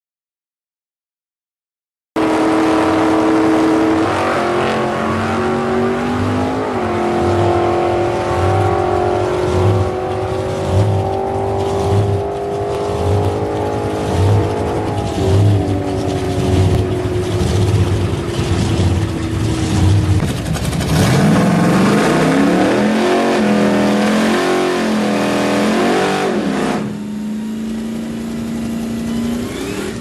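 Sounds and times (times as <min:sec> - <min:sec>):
engine running hard: 0:02.2 - 0:30.0.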